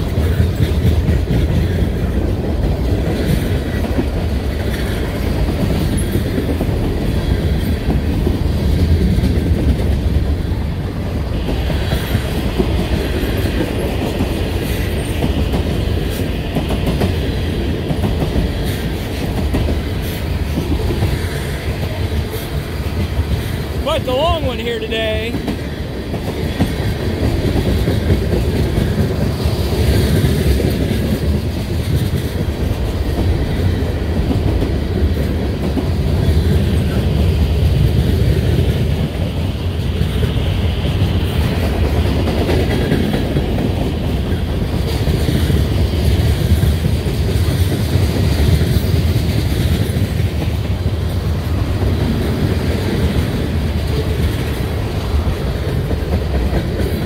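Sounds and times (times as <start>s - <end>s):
freight train wheels clattering: 0.0s - 23.8s, 25.3s - 57.0s.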